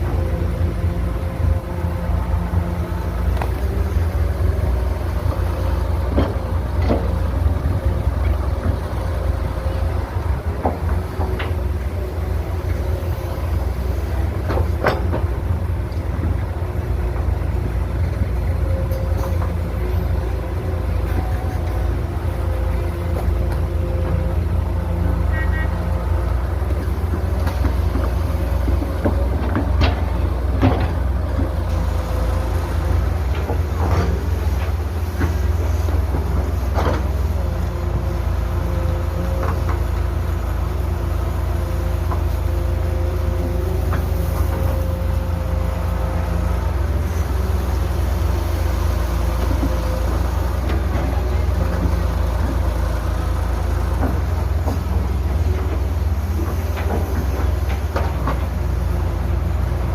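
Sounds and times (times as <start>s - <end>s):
diesel construction machinery rumbling: 0.0s - 59.9s.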